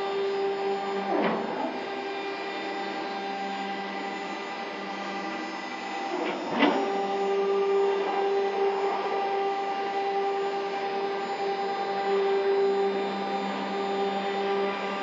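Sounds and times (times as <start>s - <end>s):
cnc router electric whine: 0.0s - 15.0s.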